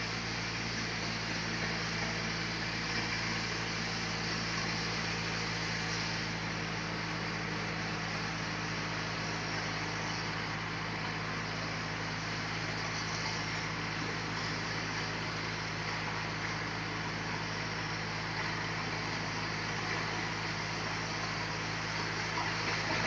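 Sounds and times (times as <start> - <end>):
sawmill machinery hum: 0.0 - 23.0.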